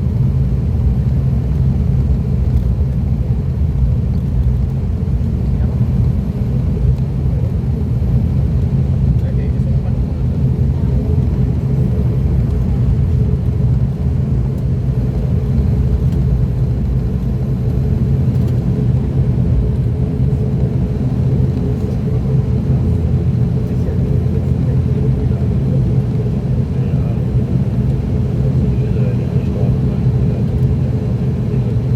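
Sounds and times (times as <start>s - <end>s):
turboprop engines droning in cabin: 0.0s - 31.9s.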